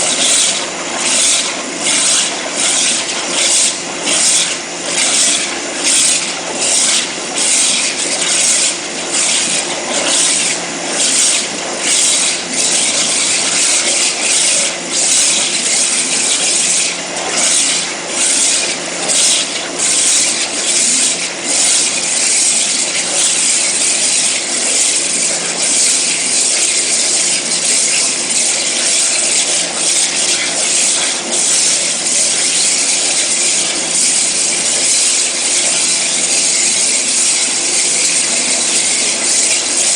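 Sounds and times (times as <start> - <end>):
waterjet cutter hissing: 0.0 - 39.9.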